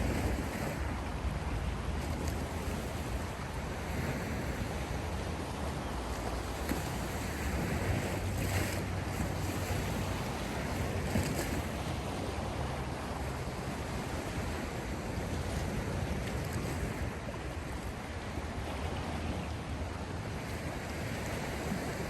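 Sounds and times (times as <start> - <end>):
sea waves washing in: 0.0 - 22.0.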